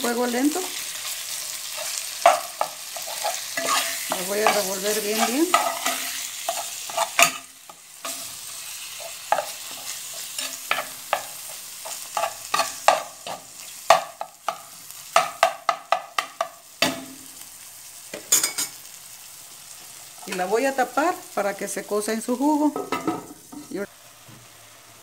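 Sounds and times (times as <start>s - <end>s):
meat sizzling: 0.0s - 25.0s.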